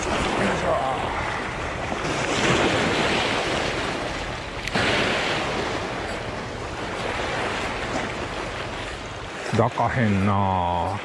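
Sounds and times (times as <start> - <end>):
sea waves washing over rocks: 0.0 - 11.0.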